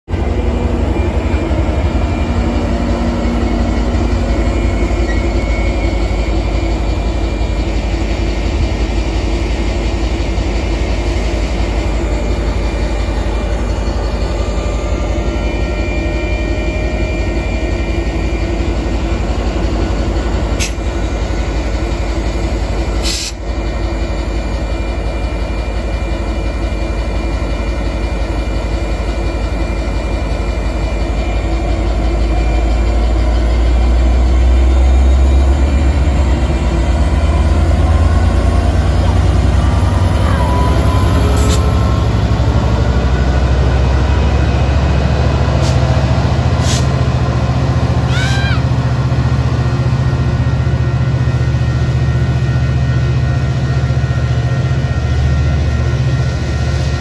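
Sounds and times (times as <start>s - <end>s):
diesel locomotive engine hum: 0.0s - 57.0s
train wheel squeal: 0.2s - 47.1s, 48.0s - 48.9s.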